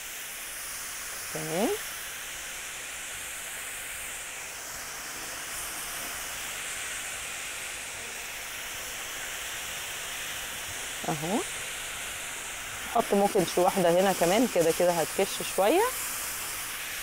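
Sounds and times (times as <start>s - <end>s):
meat sizzling on a grill plate: 0.0s - 17.0s.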